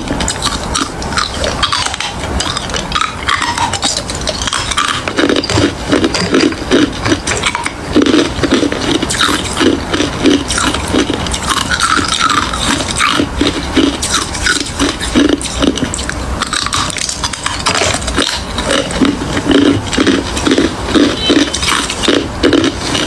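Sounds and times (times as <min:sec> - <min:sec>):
person chewing crushed ice: 0:00.0 - 0:23.0.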